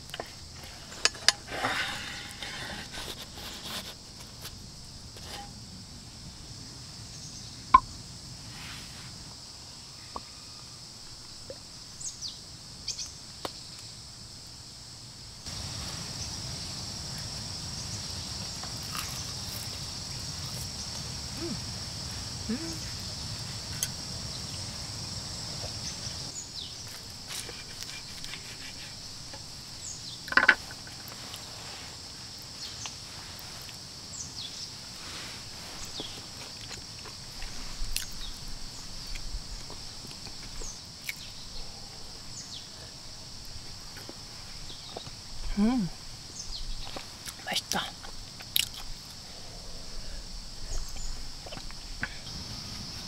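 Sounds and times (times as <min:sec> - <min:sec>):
high insect chorus: 0:00.0 - 0:53.0.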